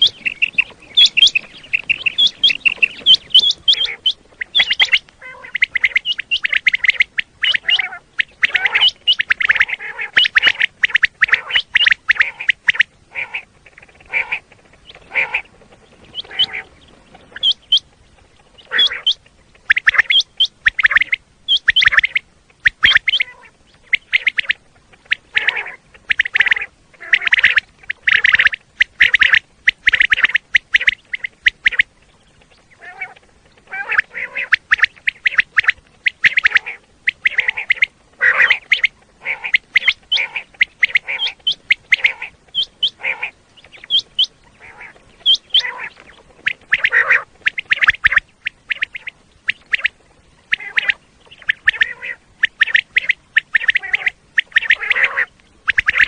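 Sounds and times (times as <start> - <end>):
quail calling: 0.0 - 56.0.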